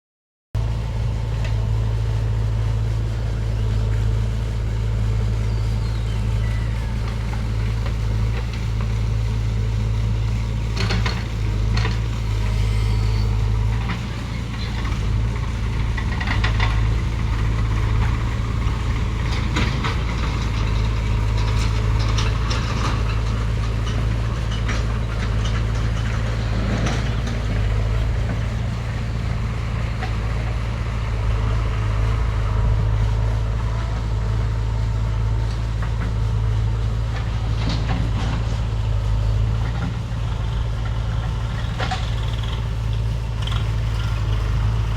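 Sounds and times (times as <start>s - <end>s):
motor humming: 0.7s - 44.9s.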